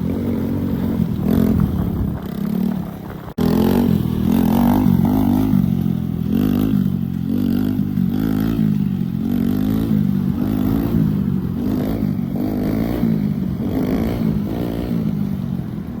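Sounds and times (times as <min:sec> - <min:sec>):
mini motorcycle engine revving: 0:00.0 - 0:16.0.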